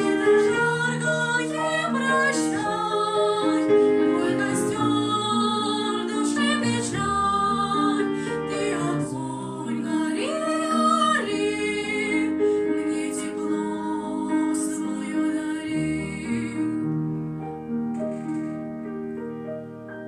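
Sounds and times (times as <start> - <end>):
girls singing: 0.0 - 16.8
grand piano: 0.0 - 20.0.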